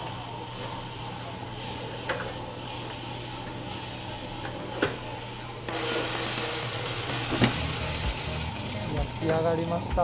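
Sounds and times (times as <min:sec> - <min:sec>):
coffee roaster humming: 0:00.0 - 0:10.0.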